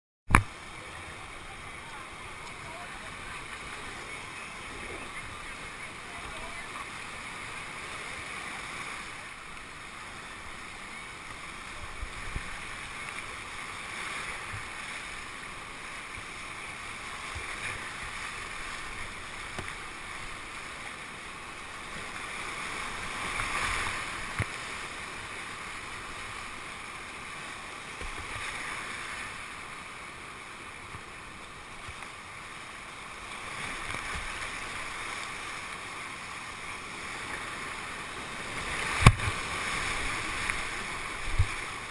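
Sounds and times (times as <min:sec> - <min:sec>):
river rushing: 0:00.3 - 0:41.9.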